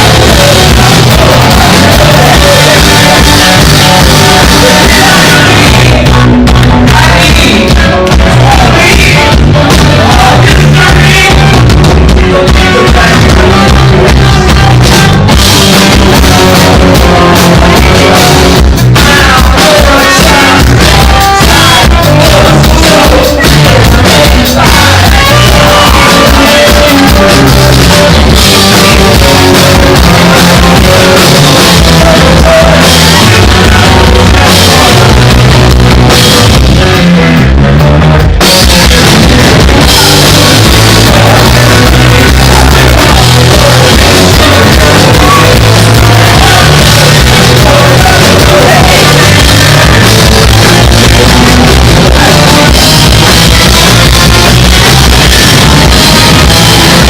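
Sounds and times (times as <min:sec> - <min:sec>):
person singing: 0:00.0 - 0:37.2, 0:38.4 - 0:57.0
live rock band: 0:00.0 - 0:57.0.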